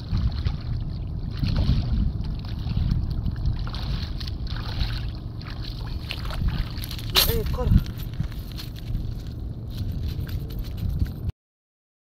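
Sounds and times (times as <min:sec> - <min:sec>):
water splashing around legs: 0:00.0 - 0:11.0
wind buffeting microphone: 0:00.0 - 0:11.3.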